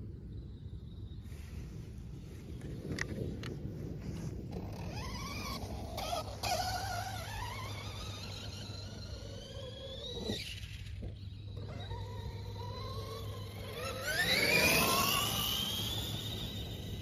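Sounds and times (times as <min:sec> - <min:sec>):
electric rc truck motor whining: 0:02.8 - 0:17.0.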